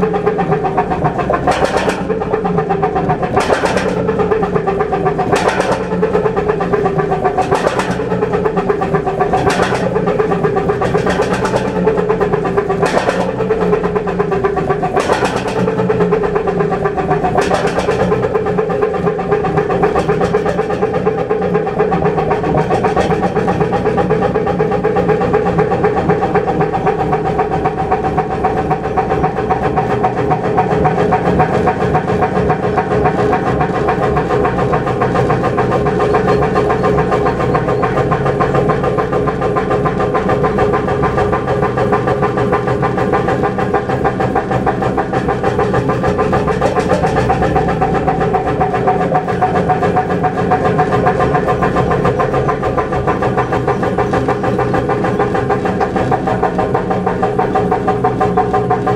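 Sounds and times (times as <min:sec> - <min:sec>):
marine diesel engine running: 0:00.0 - 0:58.9.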